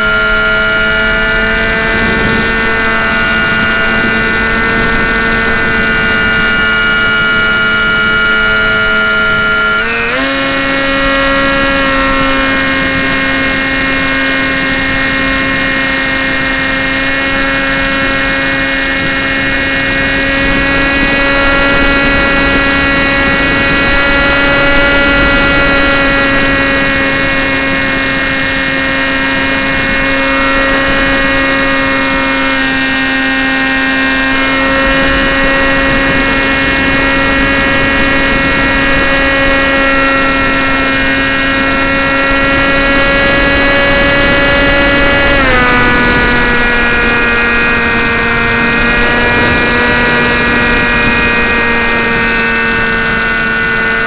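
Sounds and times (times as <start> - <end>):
model aircraft motor whine: 0.0 - 54.0.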